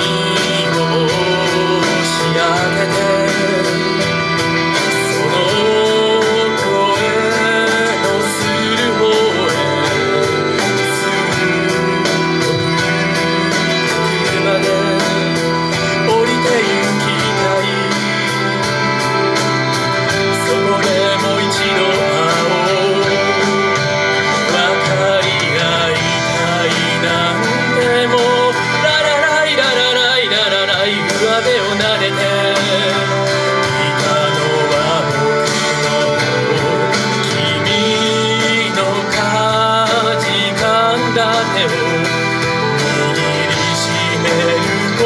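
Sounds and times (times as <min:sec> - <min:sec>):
instrumental backing: 0:00.0 - 0:45.0
person singing: 0:00.0 - 0:45.0.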